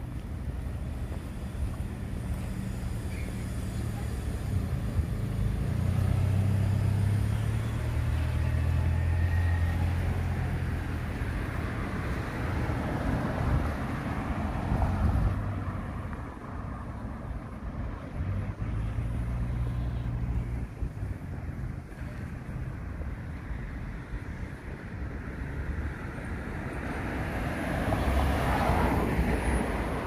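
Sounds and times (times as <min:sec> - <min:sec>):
car engine hum: 0:00.0 - 0:30.0
tyre noise of passing traffic: 0:00.0 - 0:30.0.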